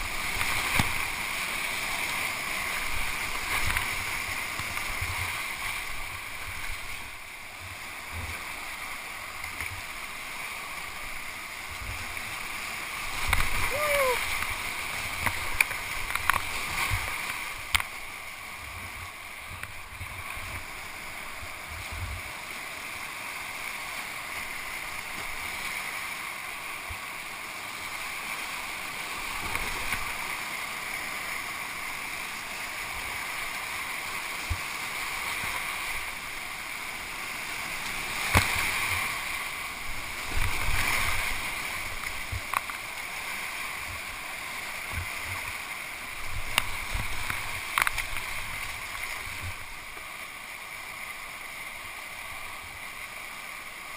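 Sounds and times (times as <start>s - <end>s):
paddle splashes: 0.0s - 53.9s
whitewater rapids rushing: 0.0s - 53.9s.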